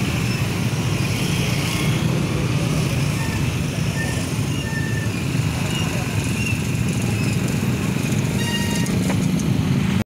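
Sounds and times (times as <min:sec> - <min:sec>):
road rumble: 0:00.0 - 0:10.0
scooter engines droning: 0:00.0 - 0:10.0.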